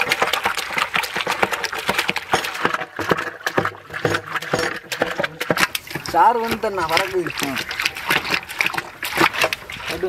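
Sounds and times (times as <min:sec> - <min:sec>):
grapes being crushed by hand: 0:00.0 - 0:10.0.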